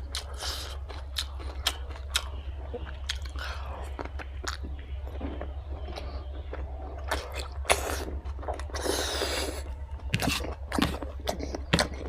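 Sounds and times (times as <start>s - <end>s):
wet chewing with crunches: 0.0s - 12.0s.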